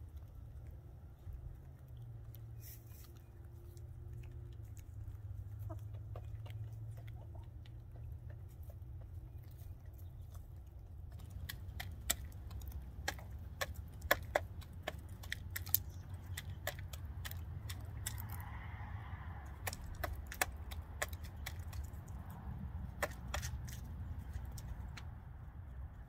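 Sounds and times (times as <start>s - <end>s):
beak pecking grain and plastic: 0.0s - 26.0s
steady low rumble: 0.0s - 26.0s.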